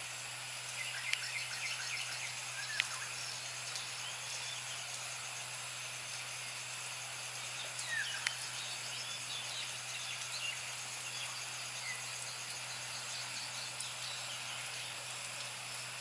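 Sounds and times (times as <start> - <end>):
high insect trill: 0.0 - 16.0
steady hiss and low hum: 0.0 - 16.0.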